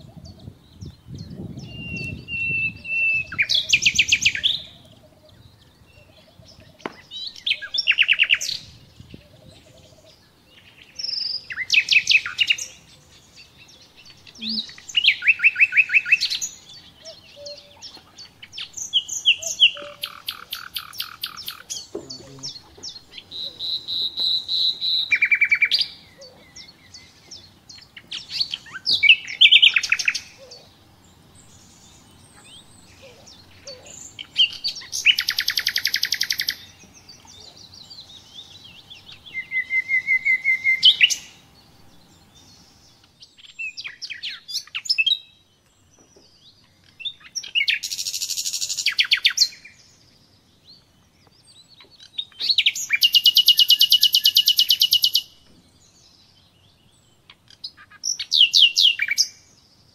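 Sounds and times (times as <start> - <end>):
songbird singing trills: 0.0 - 59.9.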